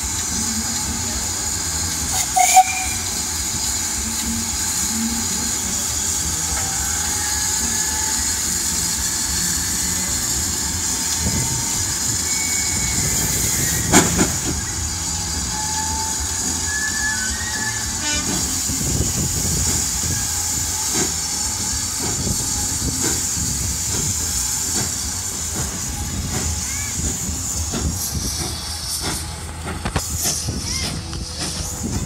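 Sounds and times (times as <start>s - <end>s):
steam hissing: 0.0s - 32.0s.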